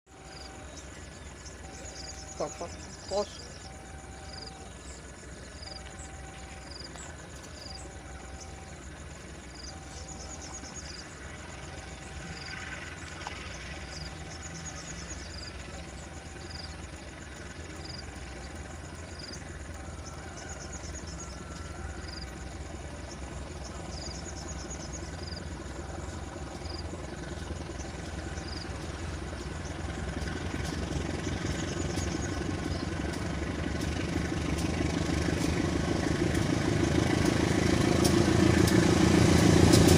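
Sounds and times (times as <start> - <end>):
train rumbling: 0.1 - 39.9.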